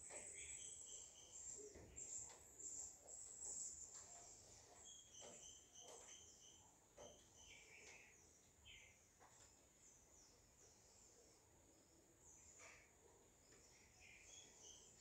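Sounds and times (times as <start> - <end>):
faint high-pitched chirps: 0.0 - 15.0.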